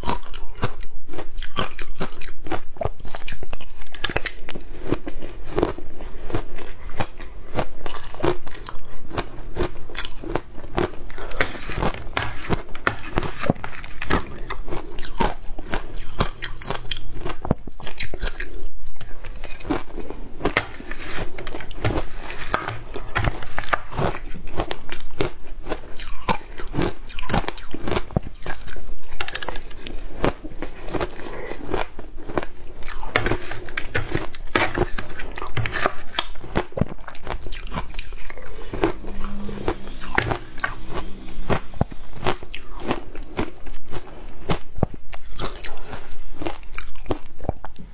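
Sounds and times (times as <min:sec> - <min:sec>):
ice being chewed: 0:00.0 - 0:47.8.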